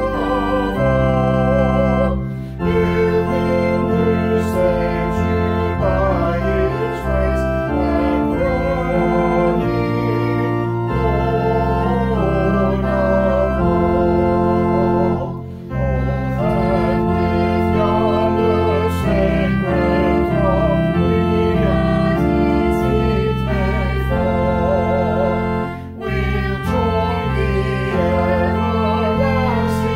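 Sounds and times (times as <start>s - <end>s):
organ playing a hymn: 0.0s - 29.9s.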